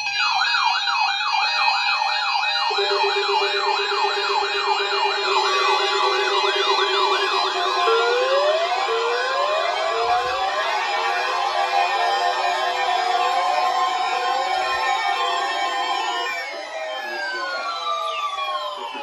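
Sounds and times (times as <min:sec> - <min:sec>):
electronic siren warble: 0:01.6 - 0:19.0
rising siren glides: 0:01.6 - 0:19.0.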